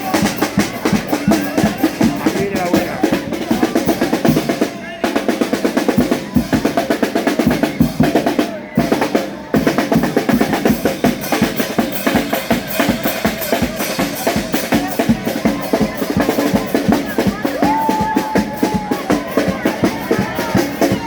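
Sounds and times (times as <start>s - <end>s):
snare and bass drum beating: 0.0s - 21.0s.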